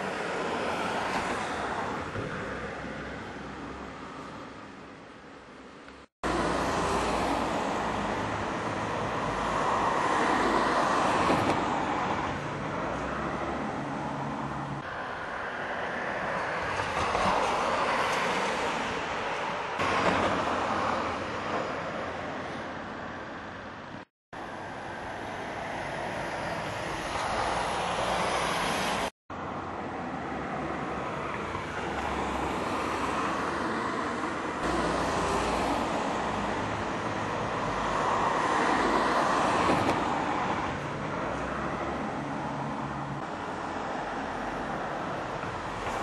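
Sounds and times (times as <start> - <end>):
car driving in traffic: 0.0 - 46.0.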